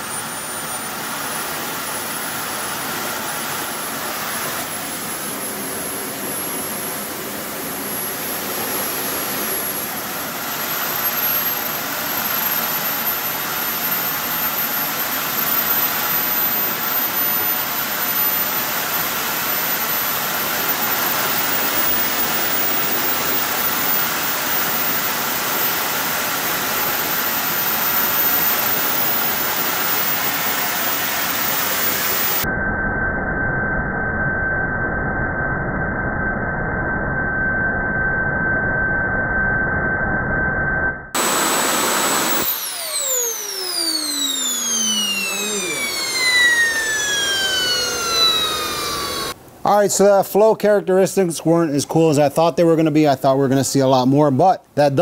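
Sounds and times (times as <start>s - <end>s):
small turbojet engine running: 0.0s - 40.0s, 40.8s - 49.4s.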